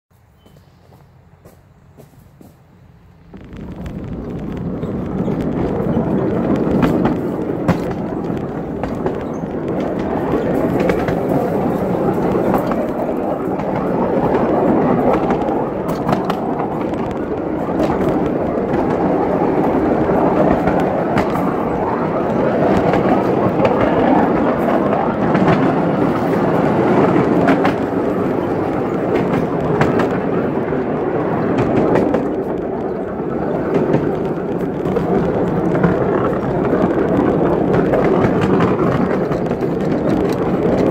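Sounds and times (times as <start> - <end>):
train wheels rumbling on rail: 0.1 - 40.9
sharp clicks and clacks: 3.4 - 40.9.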